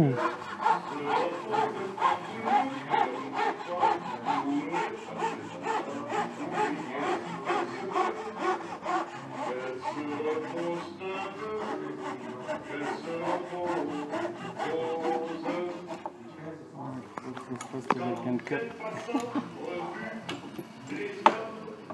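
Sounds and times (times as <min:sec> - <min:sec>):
fretsaw cutting wood veneers: 0:00.0 - 0:21.9.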